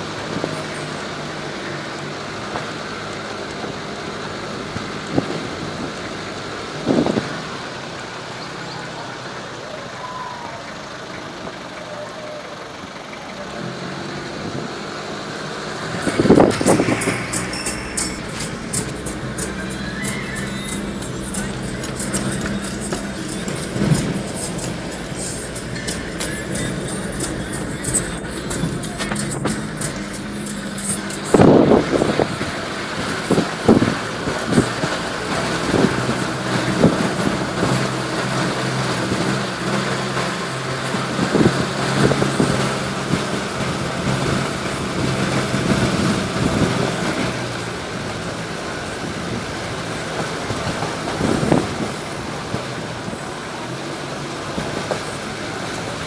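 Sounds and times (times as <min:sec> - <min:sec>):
car engine running: 0:00.0 - 0:56.0
tyres rumbling on gravel: 0:00.0 - 0:56.0.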